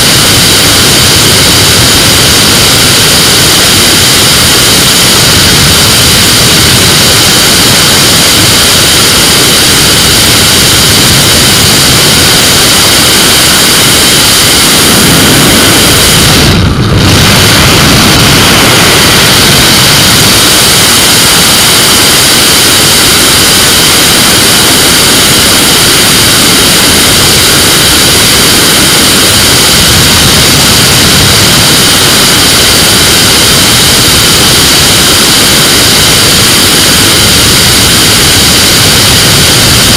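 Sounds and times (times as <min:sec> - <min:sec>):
aircraft engine and propeller: 0:00.0 - 0:39.9
rushing air: 0:00.0 - 0:39.9.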